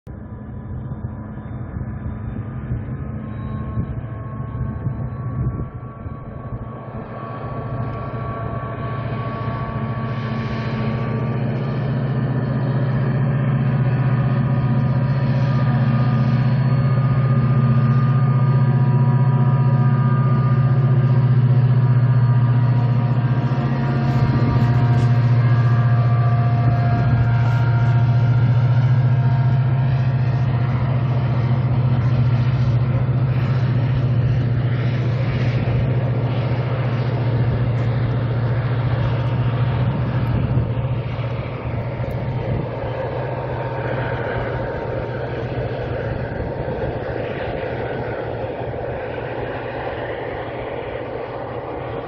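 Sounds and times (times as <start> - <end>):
diesel locomotive engine hum: 0.0 - 52.0.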